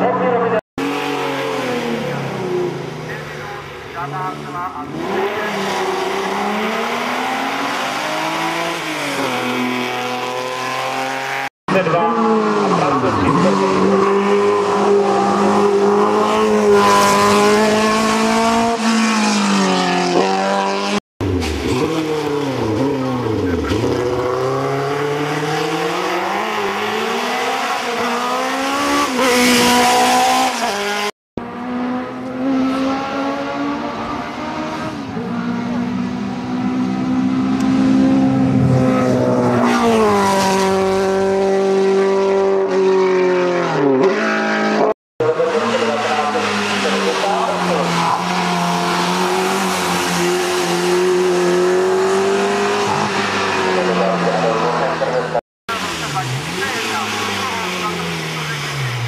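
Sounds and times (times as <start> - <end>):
distant race car engine: 0.0 - 59.0
race car engine accelerating: 0.4 - 59.0.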